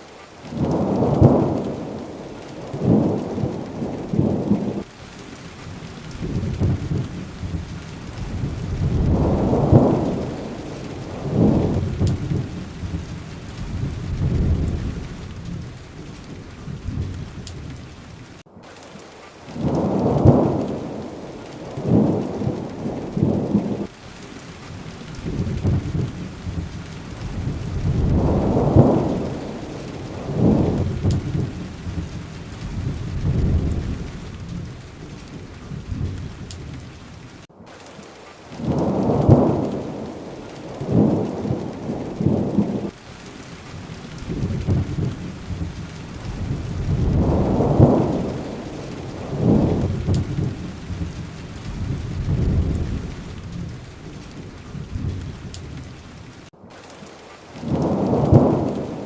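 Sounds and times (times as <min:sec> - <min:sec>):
steady rain: 0:00.0 - 0:59.0
low rolling thunder: 0:00.5 - 0:18.4, 0:19.5 - 0:24.0, 0:24.7 - 0:37.5, 0:38.5 - 0:56.5, 0:57.6 - 0:59.0.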